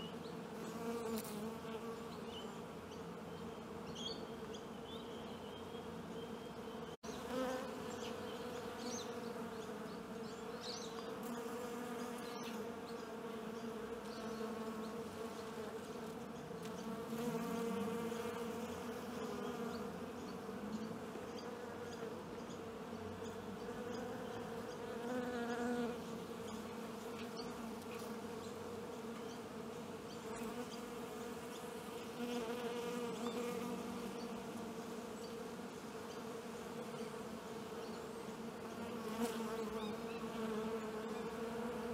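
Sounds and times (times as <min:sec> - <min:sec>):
bees buzzing: 0:00.0 - 0:41.9.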